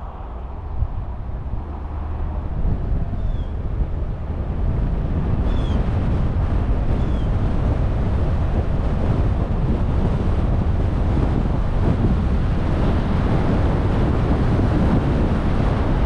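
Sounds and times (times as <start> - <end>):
car wind and road noise: 0.0 - 16.0.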